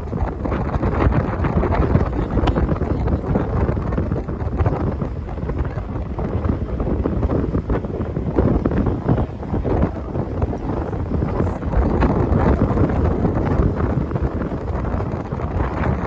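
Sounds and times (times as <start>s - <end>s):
boat wake churning: 0.0s - 16.0s
wind buffeting microphone: 0.0s - 16.0s.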